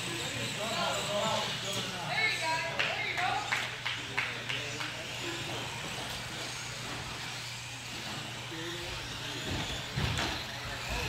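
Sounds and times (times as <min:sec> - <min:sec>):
rc car motors whirring: 0:00.0 - 0:11.0.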